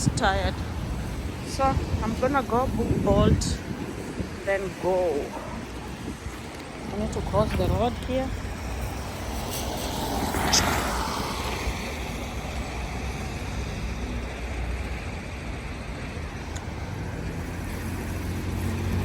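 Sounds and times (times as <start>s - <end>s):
road traffic passing: 0.0s - 19.0s
vehicle passing close: 0.0s - 19.0s.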